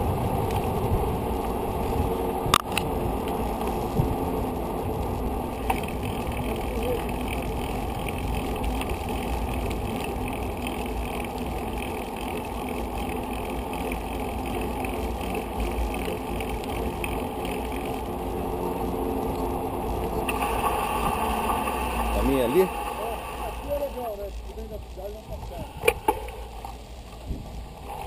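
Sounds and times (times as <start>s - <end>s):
bicycle rolling on road: 0.0s - 28.0s
wind rumble on microphone: 0.0s - 28.0s.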